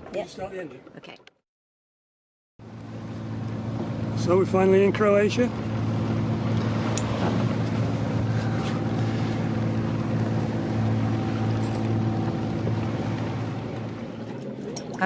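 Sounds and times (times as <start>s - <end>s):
wind: 0.0s - 1.4s, 2.6s - 15.0s
water noise: 2.6s - 15.0s.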